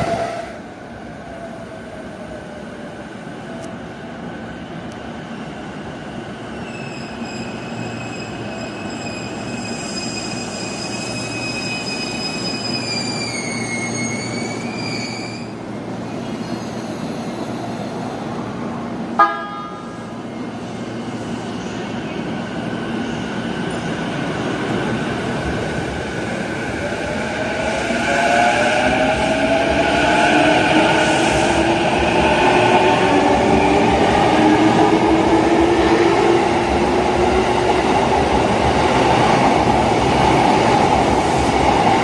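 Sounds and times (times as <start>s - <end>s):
high train whine: 0.0s - 42.0s.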